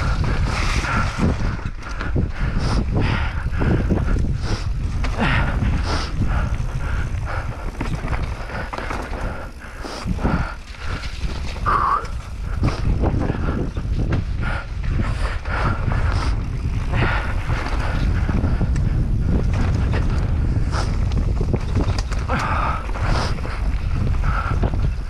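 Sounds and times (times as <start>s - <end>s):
bike rattling and knocking: 0.0s - 25.0s
wind buffeting microphone: 0.0s - 25.0s
tyres rumbling over dirt and rock: 3.6s - 25.0s.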